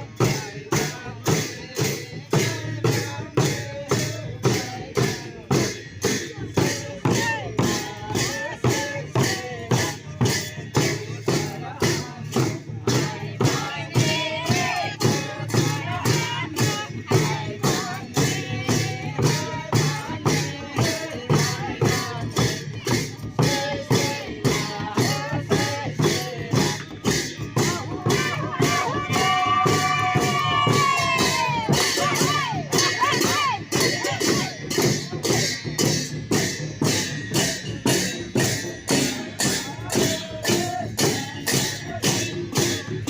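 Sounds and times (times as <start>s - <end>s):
sharp percussion clashes: 0.0s - 43.0s.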